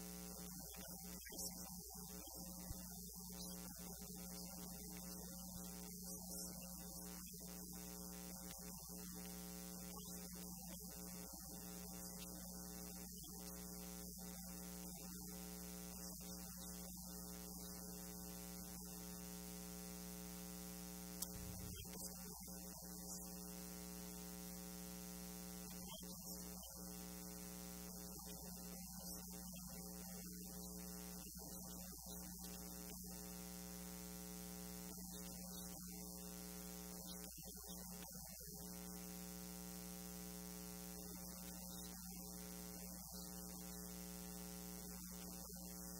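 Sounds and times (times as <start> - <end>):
electrical mains hum: 0.0 - 45.9.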